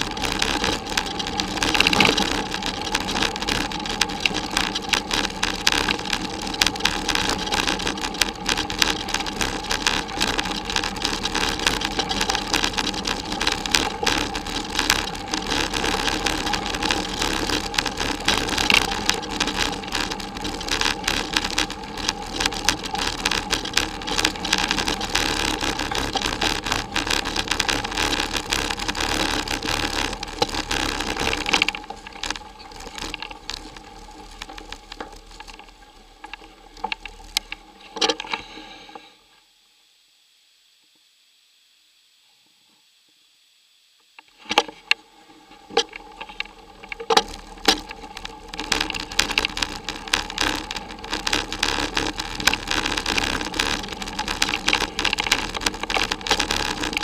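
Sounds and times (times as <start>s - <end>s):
bicycle rattling over bumpy track: 0.0s - 39.1s, 44.4s - 57.0s.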